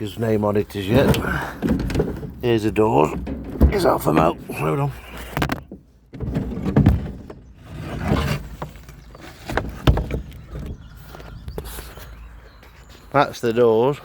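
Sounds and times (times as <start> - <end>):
knocks bumps and scraping: 0.0 - 13.4.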